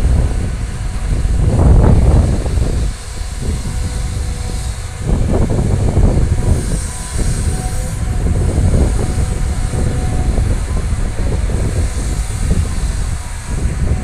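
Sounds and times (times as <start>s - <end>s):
excavator diesel engine: 0.0s - 14.0s.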